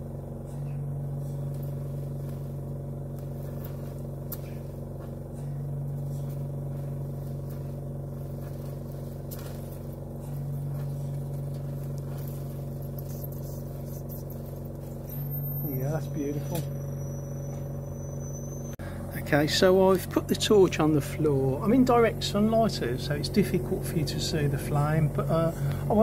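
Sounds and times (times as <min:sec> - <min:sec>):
compressor humming: 0:00.0 - 0:26.0.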